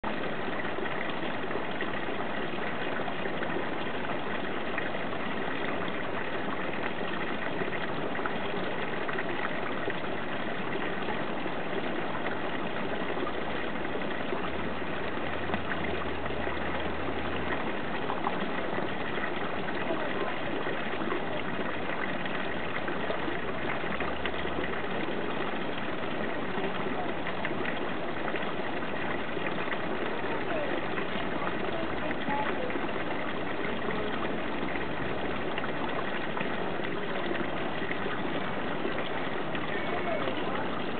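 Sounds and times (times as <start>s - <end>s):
fountain water splashing into pond: 0.0s - 40.9s.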